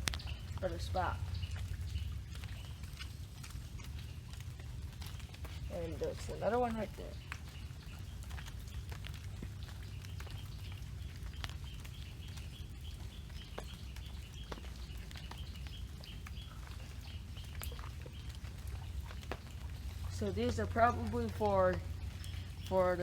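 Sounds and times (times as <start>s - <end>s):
rain pattering: 0.0s - 23.0s
steady low rumble: 0.0s - 23.0s.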